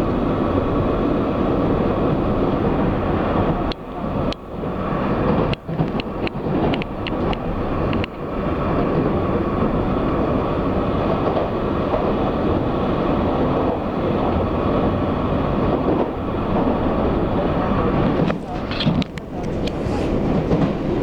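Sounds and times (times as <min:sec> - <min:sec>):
train wheels running on rails: 0:00.0 - 0:21.0.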